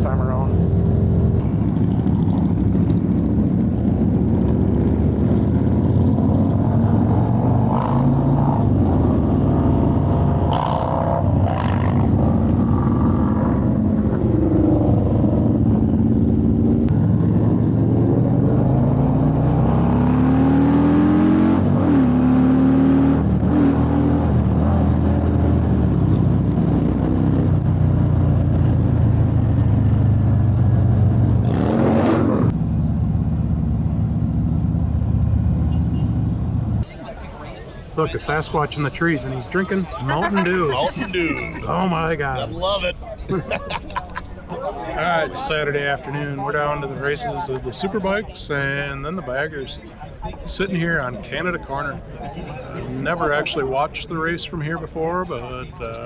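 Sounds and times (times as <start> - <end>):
rushing wind: 0.0 - 45.0.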